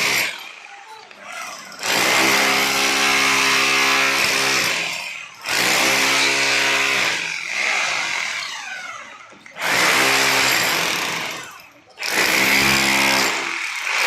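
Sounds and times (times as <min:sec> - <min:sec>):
angle grinder whining: 0:00.0 - 0:11.4.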